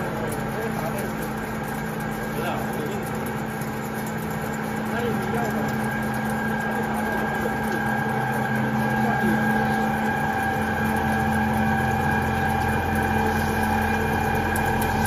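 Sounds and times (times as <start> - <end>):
deeper machine hum: 0.0 - 15.0
drilling machine drone: 0.0 - 15.0.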